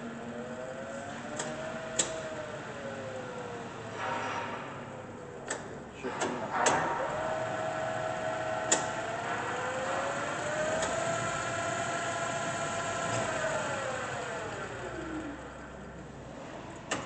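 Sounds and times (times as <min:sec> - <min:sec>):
lathe spindle drive whining: 0:00.0 - 0:04.2, 0:06.1 - 0:16.1.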